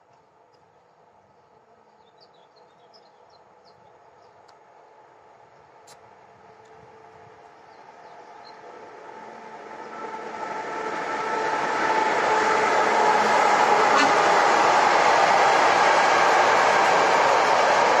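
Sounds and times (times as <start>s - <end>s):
freight train passing: 2.6s - 18.0s.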